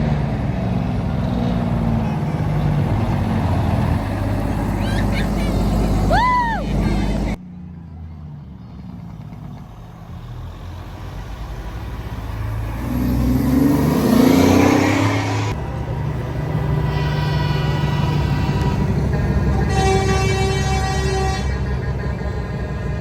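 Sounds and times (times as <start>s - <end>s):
truck engines rumbling: 0.0s - 23.0s.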